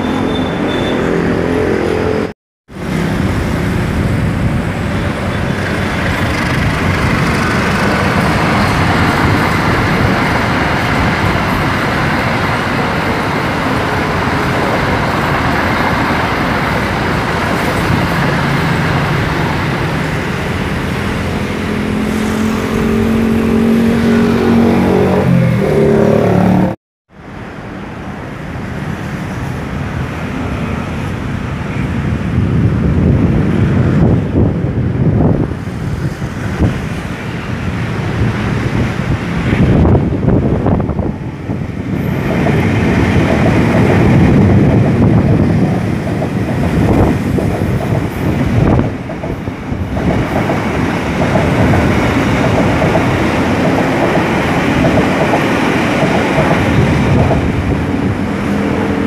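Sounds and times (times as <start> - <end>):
train wheels rushing on rail: 0.0 - 26.5, 27.2 - 59.0.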